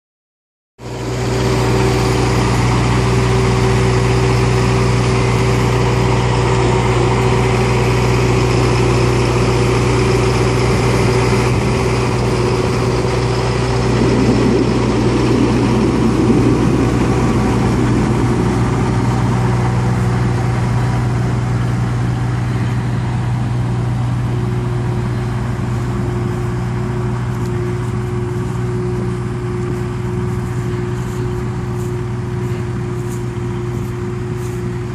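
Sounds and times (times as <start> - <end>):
tractor engine running: 0.8 - 34.9.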